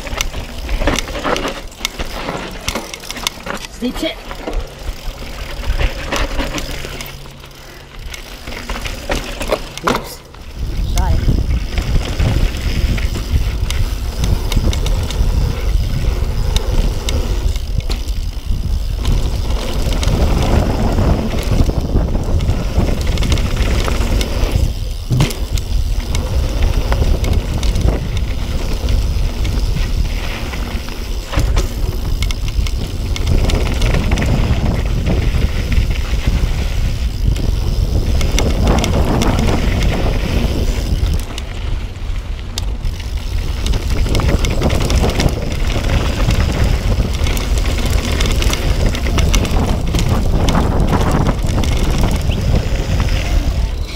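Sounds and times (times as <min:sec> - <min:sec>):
bike clicks and rattles: 0:00.0 - 0:53.9
bike tyres rolling over dirt and gravel: 0:00.0 - 0:53.9
wind rumble on microphone: 0:10.4 - 0:53.9.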